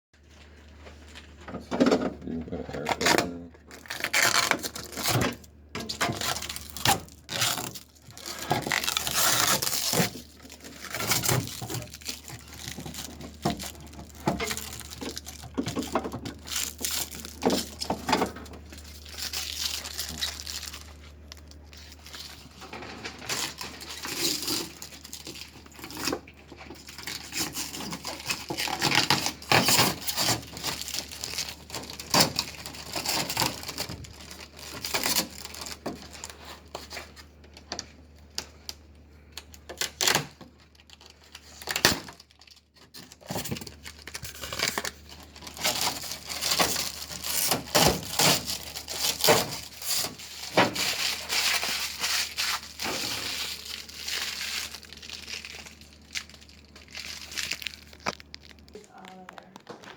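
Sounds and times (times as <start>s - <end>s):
packaging rustling: 2.2s - 59.9s.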